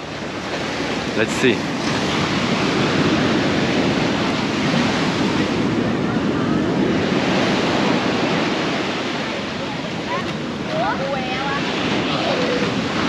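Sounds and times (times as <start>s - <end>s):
ocean surf breaking on beach: 0.0s - 13.0s
wind buffeting microphone: 0.0s - 13.0s.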